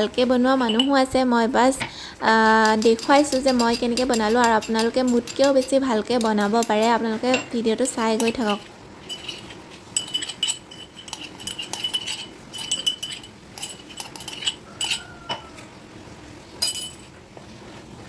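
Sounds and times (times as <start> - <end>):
utensils clinking against dishes: 0.0 - 15.7, 16.6 - 17.2.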